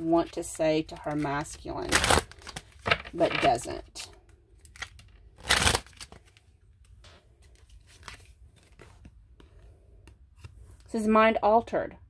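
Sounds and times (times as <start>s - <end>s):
cards rustling: 0.8s - 10.9s.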